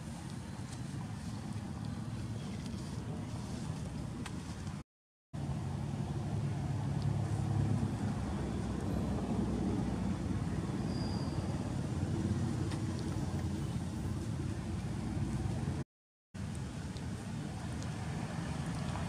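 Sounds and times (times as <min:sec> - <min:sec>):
low outdoor background rumble: 0:00.0 - 0:04.8, 0:05.4 - 0:15.8, 0:16.4 - 0:19.0.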